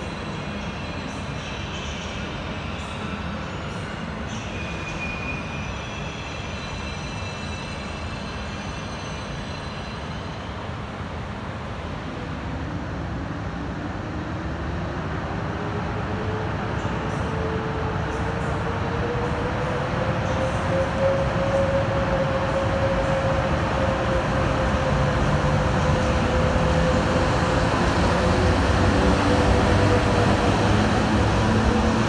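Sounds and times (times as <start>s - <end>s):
electric train rumbling: 0.0s - 32.0s.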